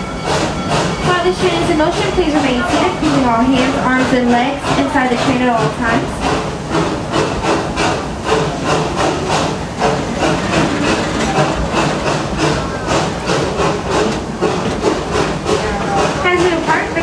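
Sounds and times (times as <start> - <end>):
train clattering over track: 0.0 - 17.0.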